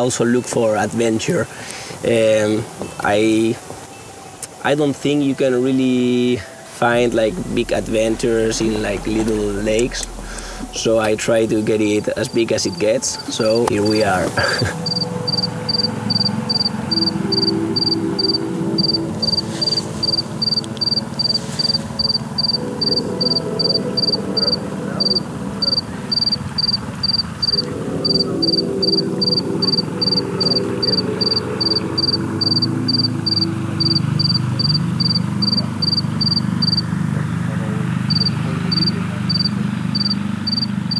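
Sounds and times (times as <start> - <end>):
low steady shifting drone: 0.0 - 40.9
cricket chirping: 6.5 - 37.0, 37.6 - 40.9.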